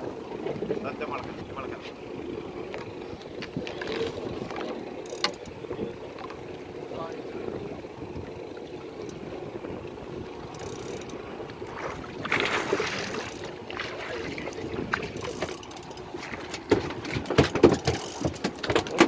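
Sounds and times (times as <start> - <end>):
water splashing against boat: 0.0 - 19.0.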